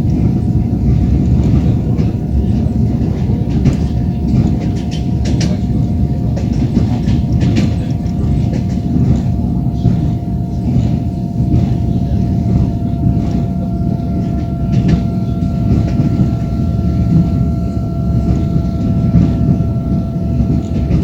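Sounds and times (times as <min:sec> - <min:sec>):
thin whine: 0:00.0 - 0:21.0
train wheels rumbling on rails: 0:00.0 - 0:21.0.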